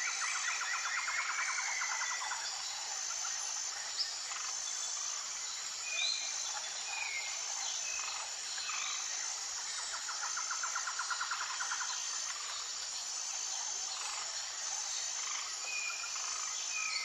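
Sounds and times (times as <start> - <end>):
high-pitched insect hum: 0.0 - 17.0.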